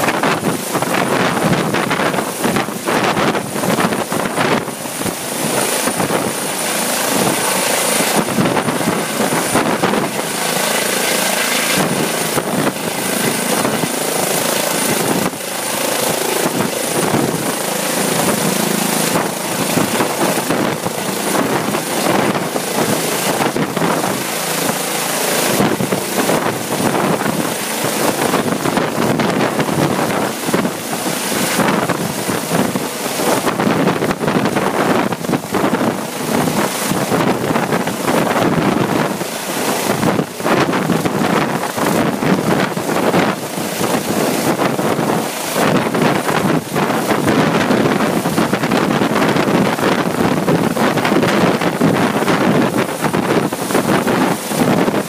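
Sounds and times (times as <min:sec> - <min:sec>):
helicopter rotor and turbine: 0:00.0 - 0:55.0
turbine high whine: 0:00.0 - 0:55.0
wind buffeting microphone: 0:00.0 - 0:55.0.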